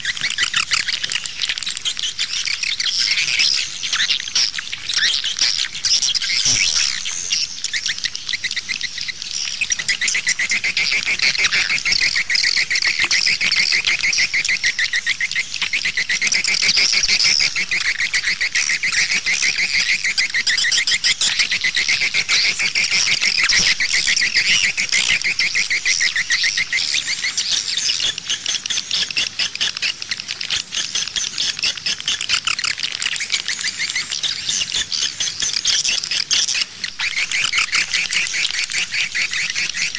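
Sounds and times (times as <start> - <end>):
swiftlets twittering chirps: 0.0 - 39.9.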